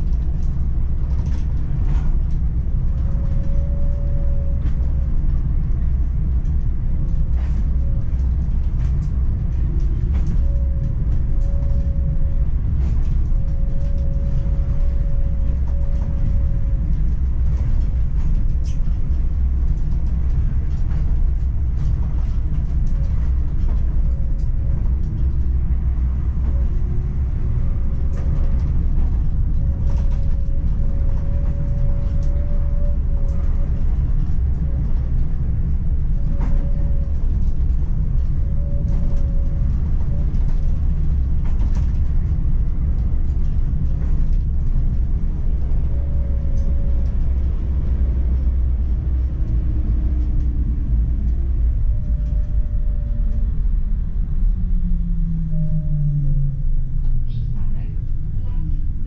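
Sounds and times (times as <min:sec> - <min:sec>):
middle-pitched whine: 0:00.0 - 0:59.0
tram rumble: 0:00.0 - 0:59.0.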